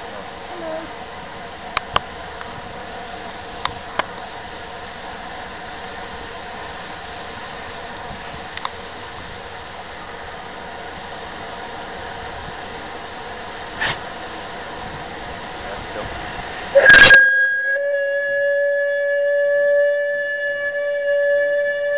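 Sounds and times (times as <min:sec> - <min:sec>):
steam hissing from locomotive: 0:00.0 - 0:21.9.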